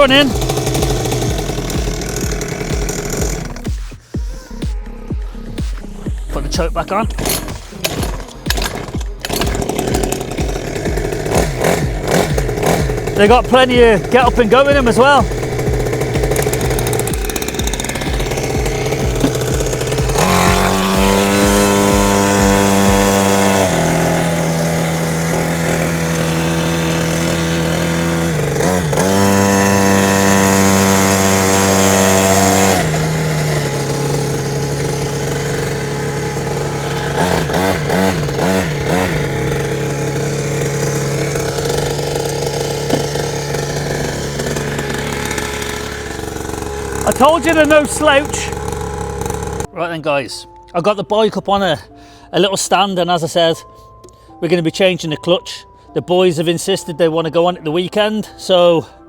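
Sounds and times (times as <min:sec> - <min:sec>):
dirt bike engine revving: 0:00.0 - 0:49.8.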